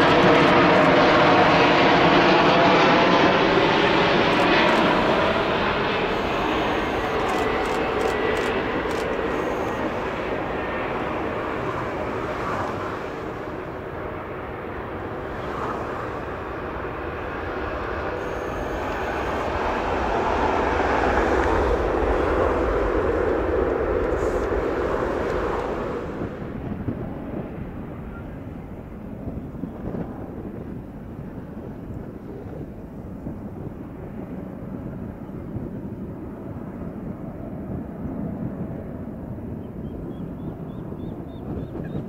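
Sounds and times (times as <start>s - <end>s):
jet engines at takeoff: 0.0s - 42.0s.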